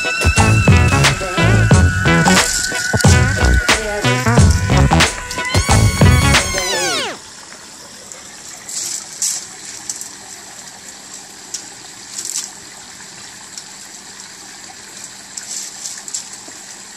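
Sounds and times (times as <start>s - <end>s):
rushing water: 0.0s - 16.9s.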